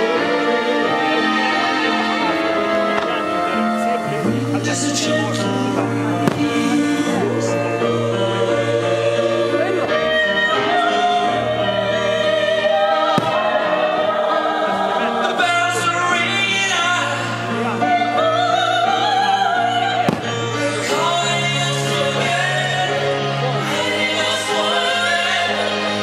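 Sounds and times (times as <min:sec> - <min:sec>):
choir: 0:00.0 - 0:26.0
orchestra: 0:00.0 - 0:26.0
solo voice singing with vibrato: 0:04.4 - 0:26.0.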